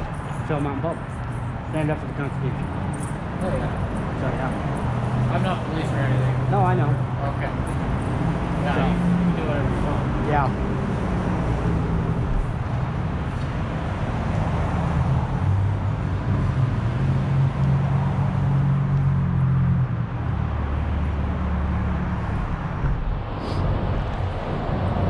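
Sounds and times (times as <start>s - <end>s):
vehicle engines passing: 0.0s - 25.0s.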